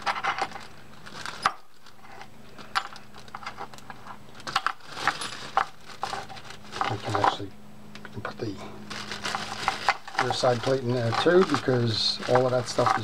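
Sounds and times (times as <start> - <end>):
small metal parts clinking: 0.0 - 7.4, 8.9 - 13.0.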